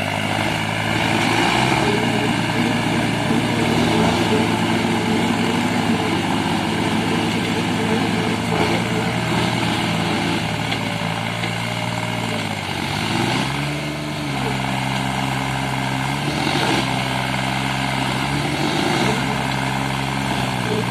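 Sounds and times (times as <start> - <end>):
diesel tractor engines under load: 0.0 - 20.9.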